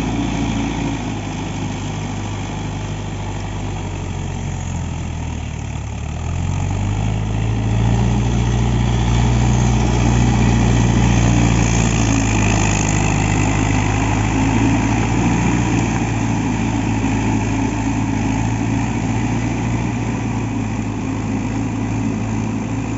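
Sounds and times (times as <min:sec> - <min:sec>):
tractor diesel engine revving: 0:00.0 - 0:22.9.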